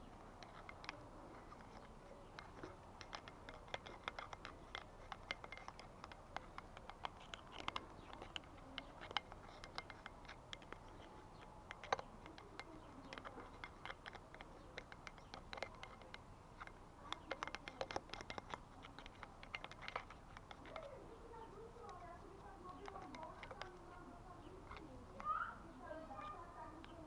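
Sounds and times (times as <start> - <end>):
small tools clicking and scratching: 0.0 - 27.0.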